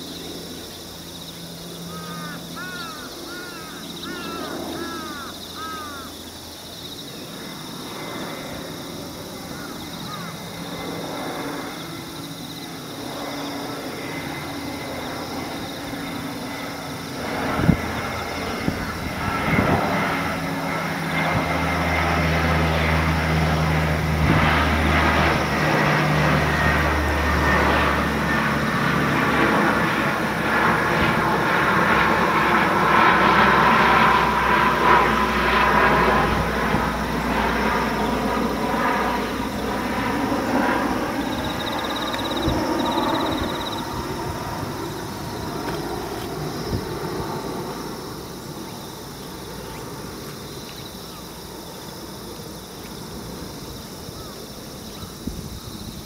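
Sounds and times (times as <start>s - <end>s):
aircraft engine drone: 0.0s - 56.0s.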